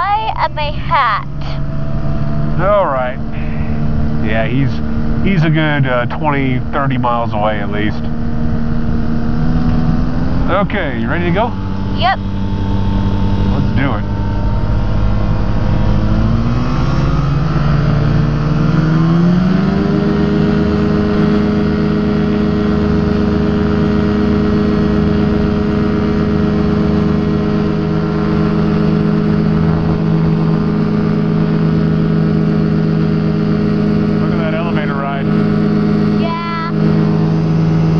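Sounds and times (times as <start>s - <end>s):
aircraft engine throttling up: 0.0s - 37.9s.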